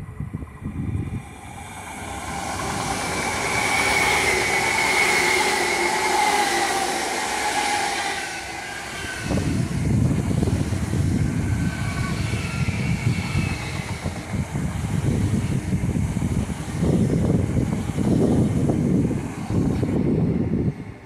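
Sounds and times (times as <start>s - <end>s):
train rushing past: 0.0s - 21.0s.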